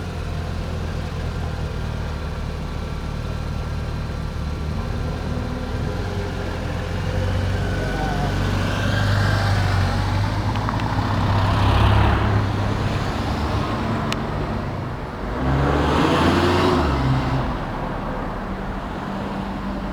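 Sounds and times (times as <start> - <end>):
low traffic engine hum: 0.0 - 19.9
vehicles passing: 0.0 - 19.9.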